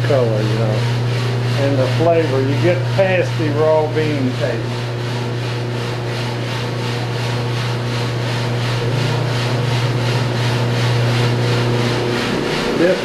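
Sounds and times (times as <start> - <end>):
roaster motor hum: 0.0 - 13.0.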